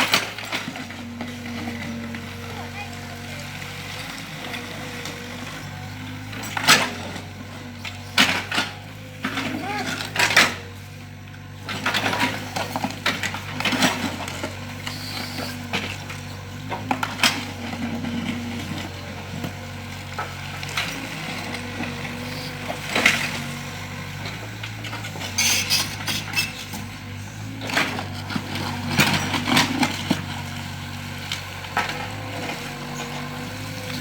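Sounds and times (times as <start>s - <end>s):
excavator engine running: 0.0s - 34.0s.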